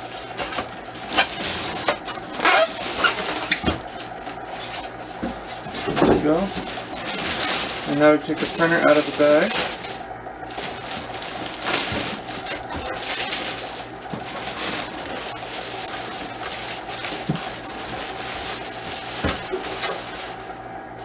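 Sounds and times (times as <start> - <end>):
plastic bag rustling and crinkling: 0.1 - 20.6.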